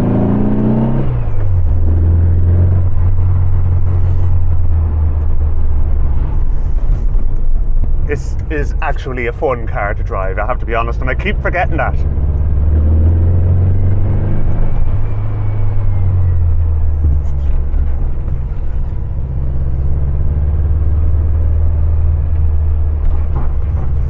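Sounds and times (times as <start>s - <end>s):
car engine rumble from inside: 0.0s - 24.0s.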